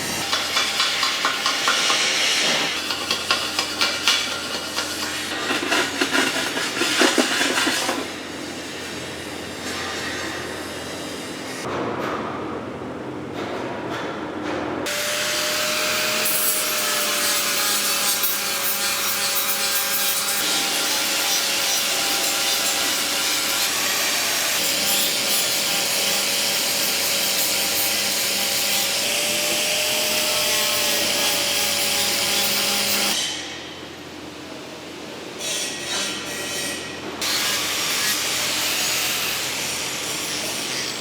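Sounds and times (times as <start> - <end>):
power grinder grinding steel: 0.0 - 11.6, 14.9 - 33.2, 37.2 - 41.0.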